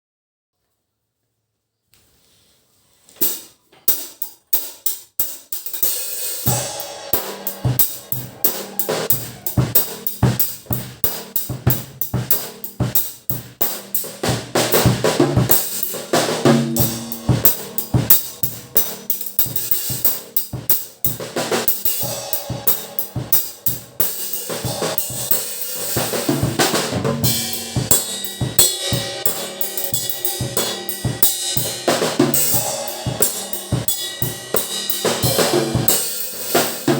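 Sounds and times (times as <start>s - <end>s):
drum kit groove: 3.2s - 36.9s
cymbal crashes: 5.9s - 36.9s.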